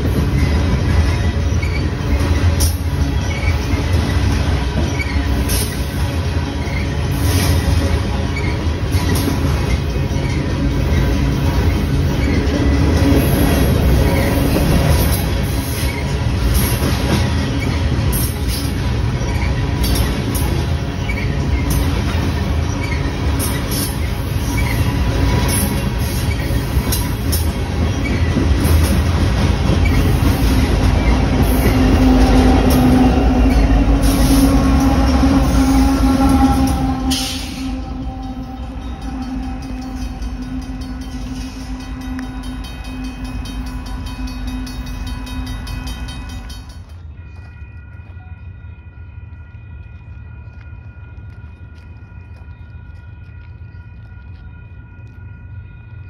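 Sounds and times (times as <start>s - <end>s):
diesel locomotive engine hum: 0.0s - 56.0s
train wheels rumbling on rail: 0.0s - 56.0s
wheels clicking on rail: 0.0s - 56.0s.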